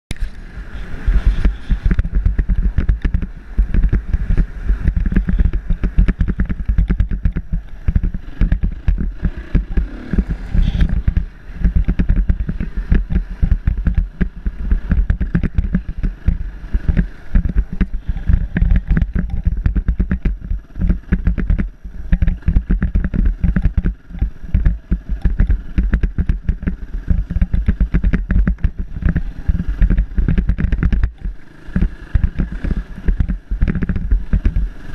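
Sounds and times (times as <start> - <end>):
motorcycle engine rumbling: 0.1 - 34.9.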